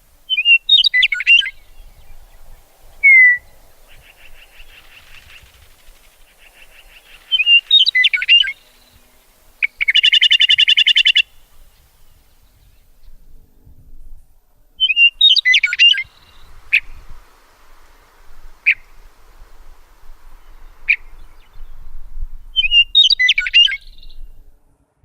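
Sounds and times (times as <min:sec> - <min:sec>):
songbird singing chirps and trills: 0:00.0 - 0:24.6.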